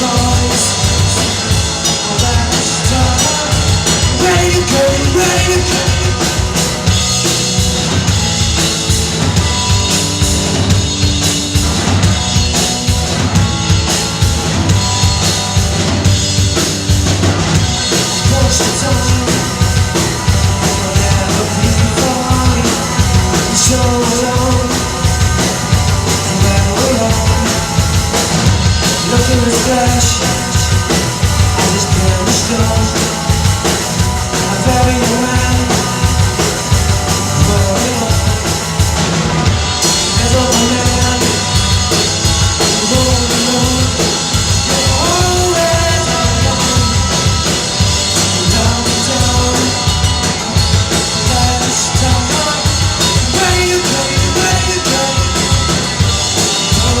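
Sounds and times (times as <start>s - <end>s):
drum kit beat: 0.0s - 57.0s
electric guitars: 0.0s - 57.0s.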